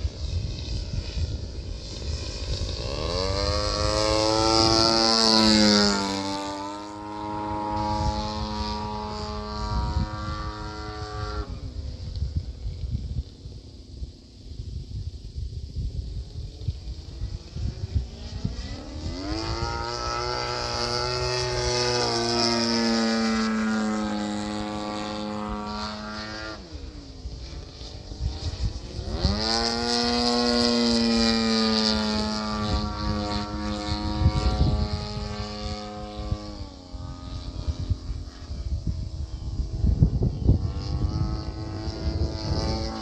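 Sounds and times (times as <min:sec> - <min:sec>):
model plane motor whine: 0:00.0 - 0:43.0
wind buffeting microphone: 0:00.0 - 0:43.0.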